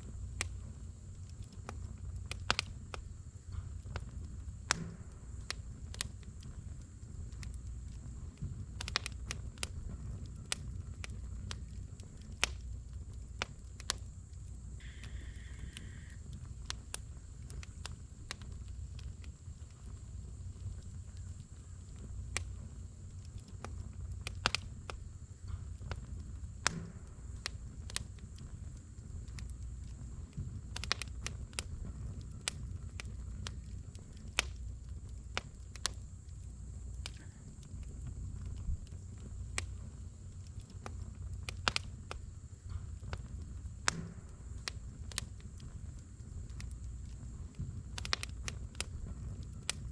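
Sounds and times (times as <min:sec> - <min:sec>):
campfire crackling and popping: 0:00.0 - 0:49.9
low fire rumble: 0:00.0 - 0:49.9.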